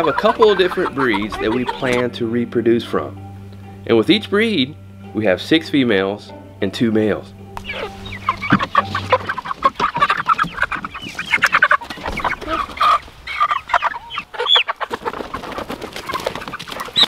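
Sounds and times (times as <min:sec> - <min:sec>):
chickens clucking and squawking: 0:00.0 - 0:04.5, 0:07.6 - 0:17.0.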